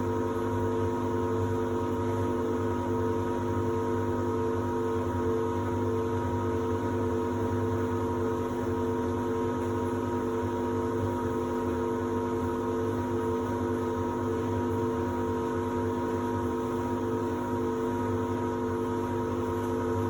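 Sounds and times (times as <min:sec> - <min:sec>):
washer-dryer humming: 0:00.0 - 0:20.0.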